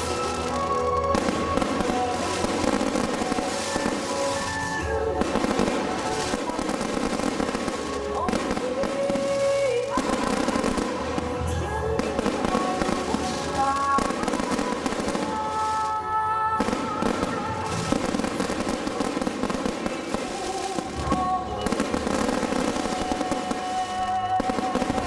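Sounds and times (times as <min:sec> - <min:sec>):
fireworks bursting and crackling: 0:00.0 - 0:25.0
music playing: 0:00.0 - 0:25.0.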